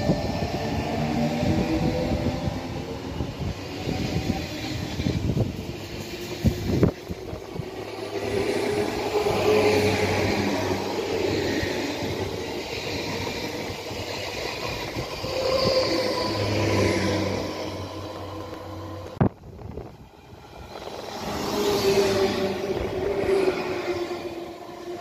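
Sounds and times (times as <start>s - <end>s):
train wheels rushing on rail: 0.0s - 25.0s.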